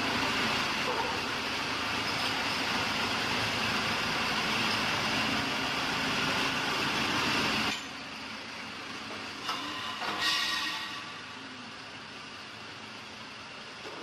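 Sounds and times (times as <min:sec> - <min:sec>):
diesel generator running: 0:00.0 - 0:14.0.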